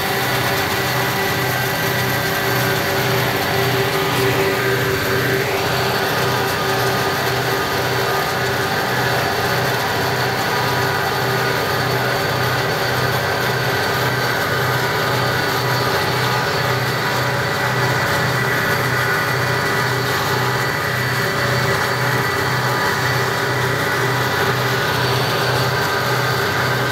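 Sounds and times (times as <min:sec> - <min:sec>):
diesel locomotive droning: 0:00.0 - 0:26.9.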